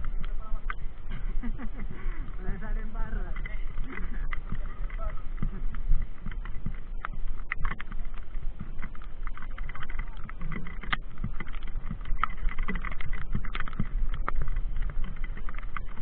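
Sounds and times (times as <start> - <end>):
mountain bike rattling: 0.0 - 16.0
wind rumble on microphone: 0.0 - 16.0.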